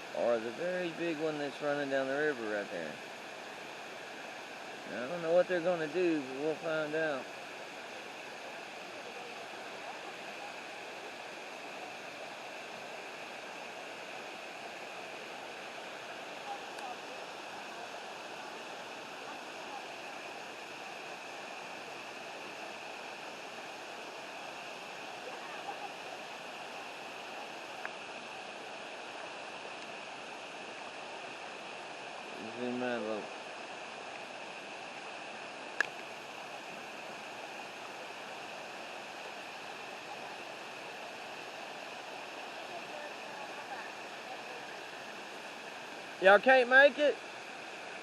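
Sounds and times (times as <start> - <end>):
river water and waterfall rushing: 0.0 - 48.0.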